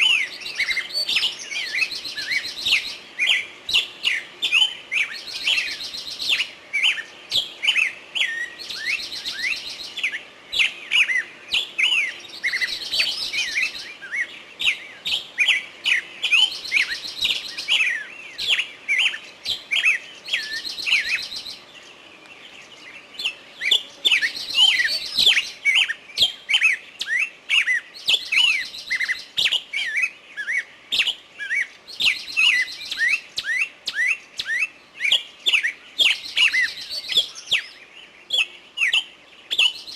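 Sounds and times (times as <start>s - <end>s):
buzzy bird trill: 0.0s - 39.9s
songbirds chirping: 0.0s - 39.9s.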